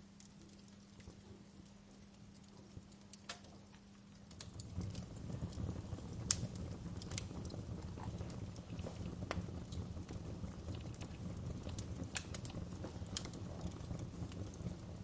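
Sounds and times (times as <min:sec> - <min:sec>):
low rumble of burning fire: 0:00.0 - 0:15.0
wood fire crackling and popping: 0:00.0 - 0:15.0.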